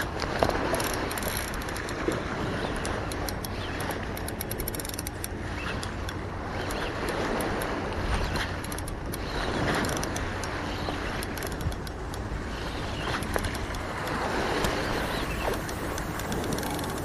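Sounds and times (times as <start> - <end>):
small clicks: 0.0 - 17.0
wind on microphone: 0.0 - 17.0
fishing reel being cranked: 0.6 - 17.0.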